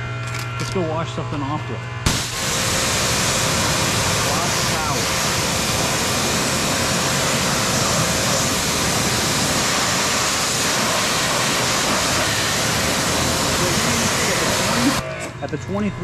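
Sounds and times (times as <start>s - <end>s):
pressure washer water spray: 2.1s - 15.0s.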